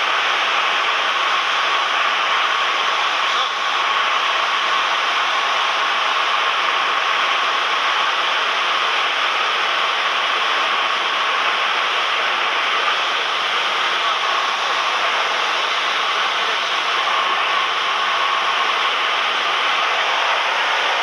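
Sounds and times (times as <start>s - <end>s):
aircraft cabin engine hiss: 0.0s - 21.0s.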